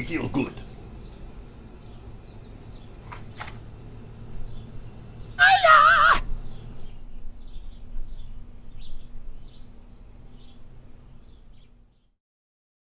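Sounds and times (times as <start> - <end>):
low background rumble: 0.0 - 12.0
small birds chirping faintly: 0.0 - 12.2.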